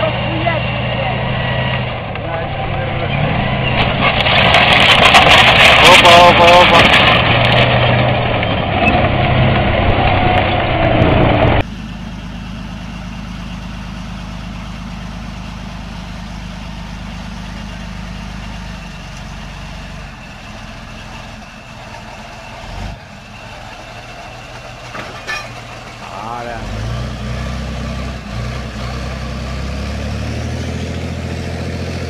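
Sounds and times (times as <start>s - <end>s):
heavy tank engine: 0.0s - 32.0s.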